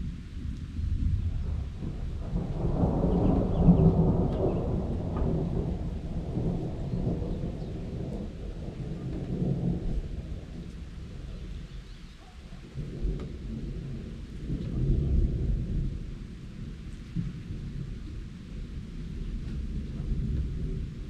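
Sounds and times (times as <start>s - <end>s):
faint rain: 0.0s - 21.0s
rolling thunder: 0.0s - 21.0s.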